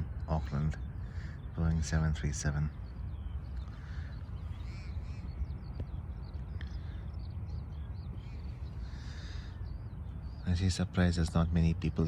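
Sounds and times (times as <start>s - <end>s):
birds calling and chirping: 0.0s - 12.0s
steady low rumble: 0.0s - 12.0s.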